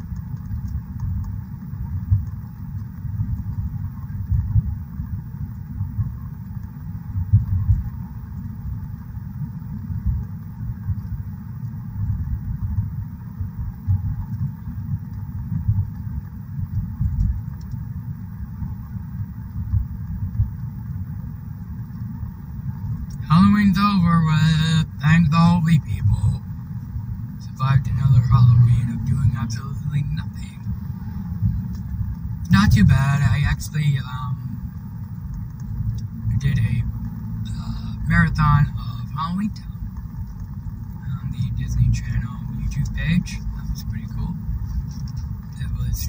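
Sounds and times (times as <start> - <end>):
engine and road rumble: 0.0 - 46.0.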